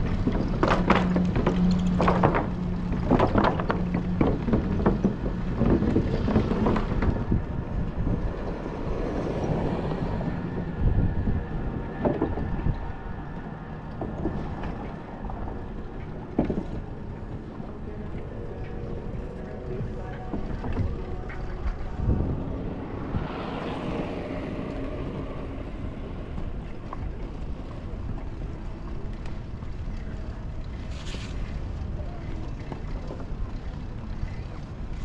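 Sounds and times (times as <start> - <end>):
wind rushing over microphone: 0.0 - 30.6
passing street traffic: 0.0 - 35.0.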